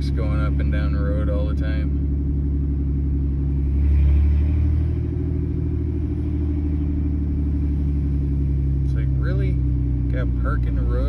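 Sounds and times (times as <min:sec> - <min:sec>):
engine and road noise inside car: 0:00.0 - 0:11.0.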